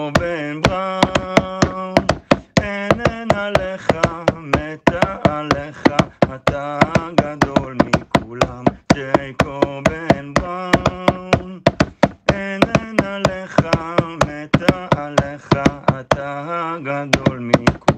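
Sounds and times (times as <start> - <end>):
fast percussive clicks beat: 0.0 - 16.4, 17.0 - 17.9
person singing long notes: 0.0 - 17.9.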